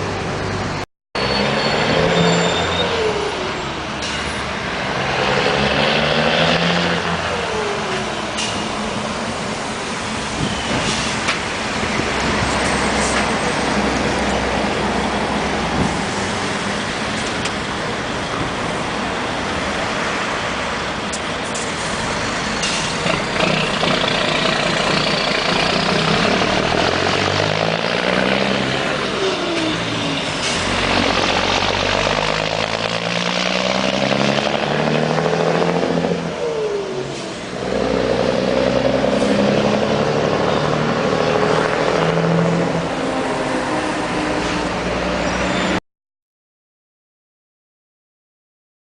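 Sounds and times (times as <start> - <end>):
truck diesel engine accelerating: 0.0 - 45.8.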